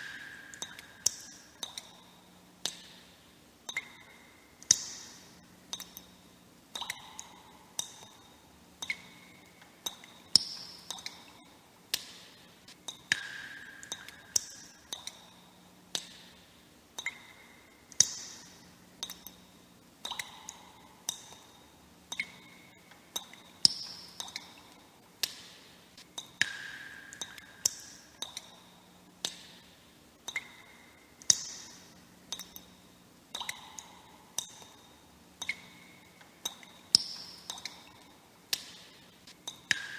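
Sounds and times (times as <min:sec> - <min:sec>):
water droplets dripping: 0:00.0 - 0:39.9.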